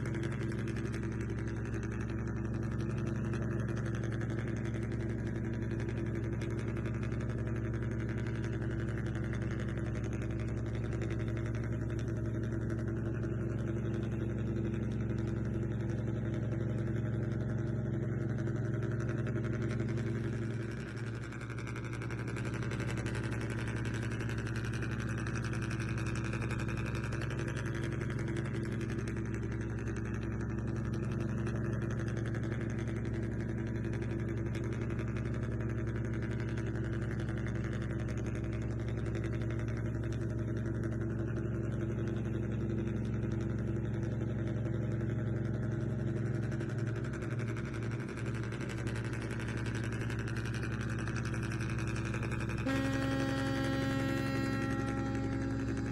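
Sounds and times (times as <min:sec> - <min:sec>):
low motor hum: 0:00.0 - 0:55.9.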